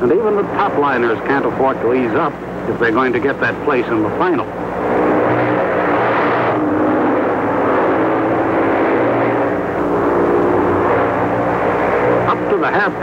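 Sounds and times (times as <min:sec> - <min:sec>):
motorcycle engines running hard: 0:00.0 - 0:13.0.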